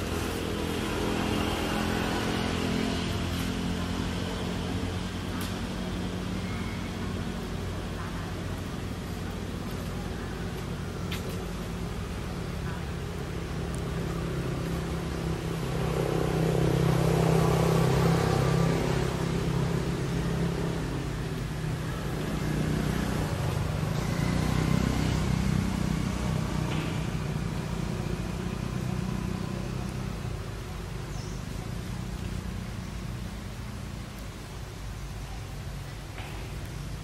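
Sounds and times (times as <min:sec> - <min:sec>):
vehicle engine hum: 0:00.0 - 0:37.0.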